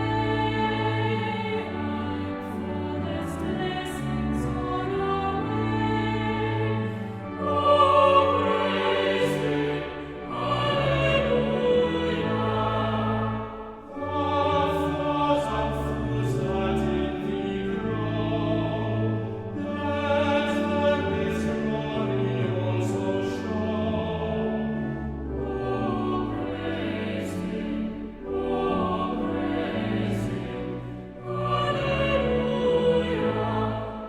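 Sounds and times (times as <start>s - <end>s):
church choir singing a hymn: 0.0s - 34.0s.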